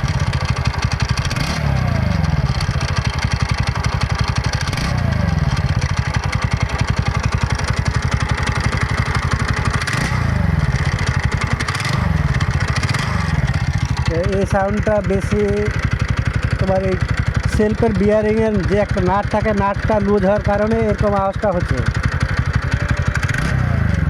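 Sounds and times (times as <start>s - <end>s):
scooter engine running harshly: 0.0s - 24.0s.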